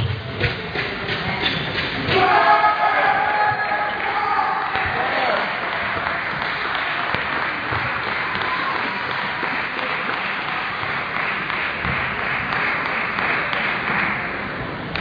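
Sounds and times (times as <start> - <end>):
sports hall din: 0.0 - 15.0.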